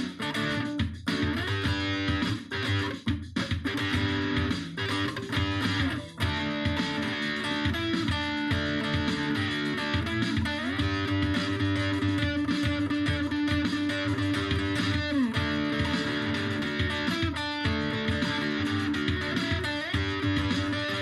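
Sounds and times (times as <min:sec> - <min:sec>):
guitar background music: 0:00.0 - 0:21.0.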